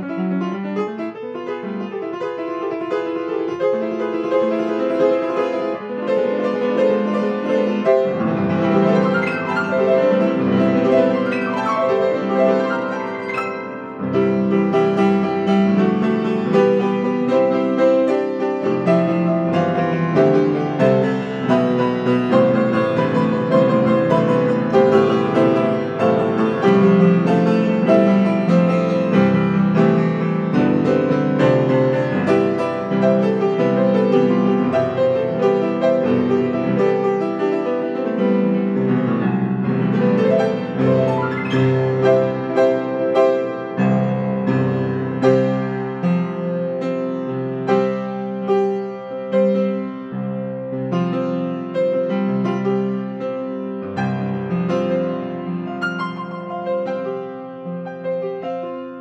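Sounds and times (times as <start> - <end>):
solo grand piano: 0.0 - 59.0.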